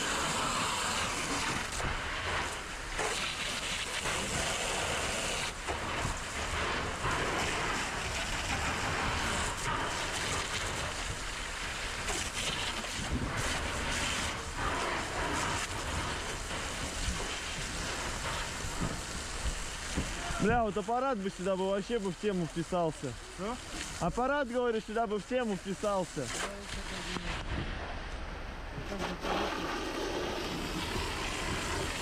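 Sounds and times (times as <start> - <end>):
water spraying from hose nozzle: 0.0 - 27.6, 28.8 - 32.0.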